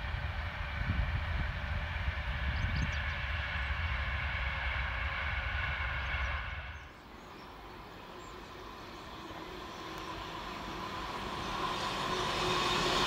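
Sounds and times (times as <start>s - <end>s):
approaching train: 0.0s - 13.0s
train running at speed: 0.0s - 13.0s.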